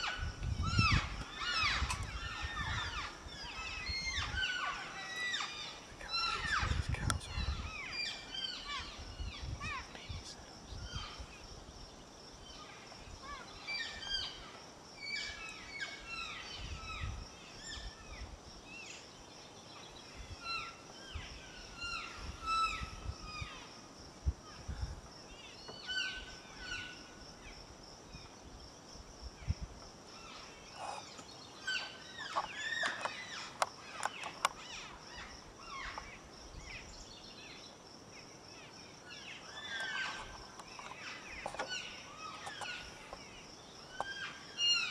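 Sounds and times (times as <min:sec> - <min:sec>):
wild birds chirping and singing: 0:00.0 - 0:44.9.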